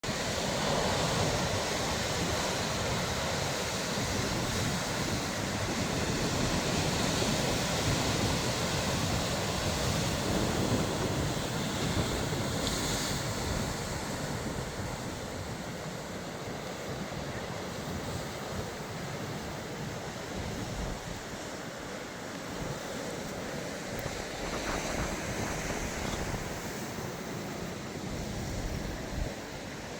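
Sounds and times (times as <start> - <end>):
sea surf washing on shore: 0.0 - 29.9.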